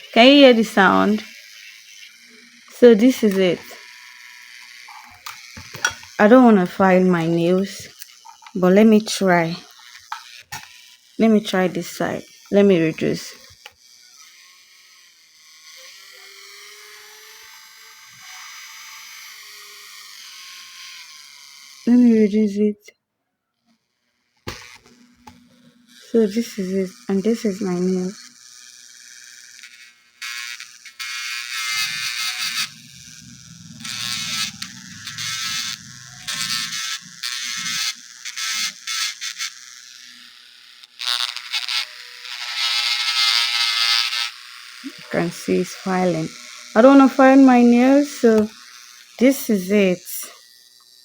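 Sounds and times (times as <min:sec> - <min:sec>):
electric nail drill whining: 0:00.0 - 0:22.7, 0:23.7 - 0:51.0.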